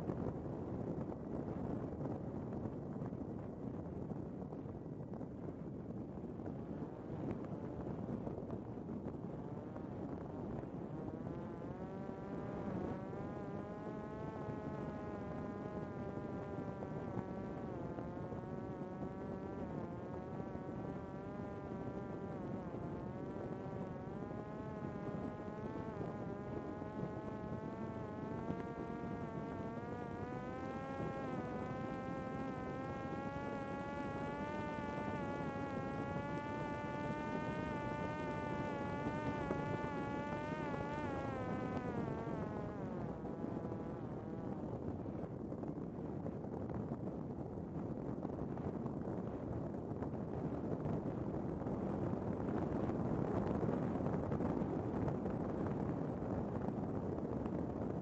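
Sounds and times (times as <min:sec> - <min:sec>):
drone motor and propeller buzzing: 0:05.4 - 0:58.0.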